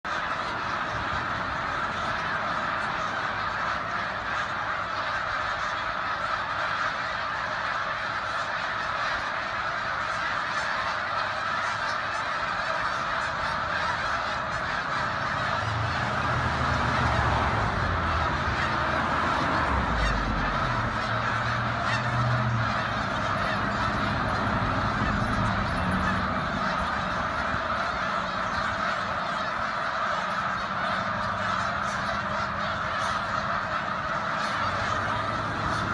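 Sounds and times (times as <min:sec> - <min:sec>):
geese honking: 0:00.0 - 0:35.9.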